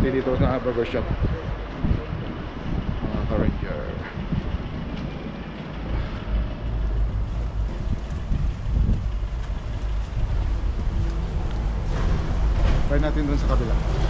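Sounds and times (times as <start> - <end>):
low rumble of street traffic: 0.0 - 14.0
wind buffeting microphone: 0.0 - 14.0.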